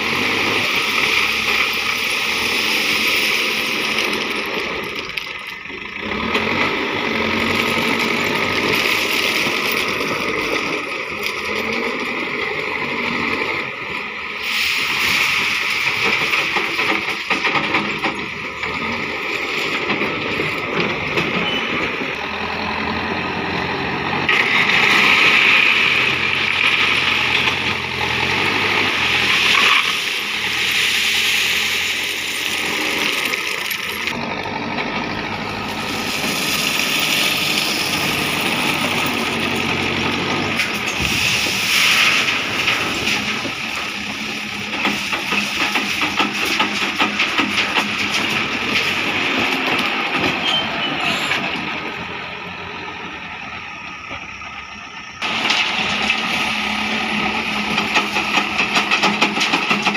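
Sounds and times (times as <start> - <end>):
diesel engine revving: 0.0 - 59.9
gravel rattling into truck: 0.0 - 59.9.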